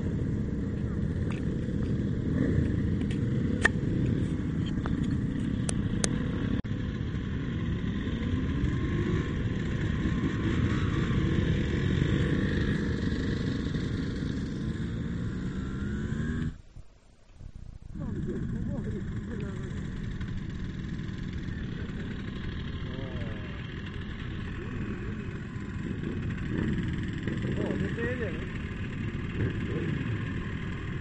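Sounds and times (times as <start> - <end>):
small motorcycle engine running: 0.0 - 16.6, 18.0 - 31.0.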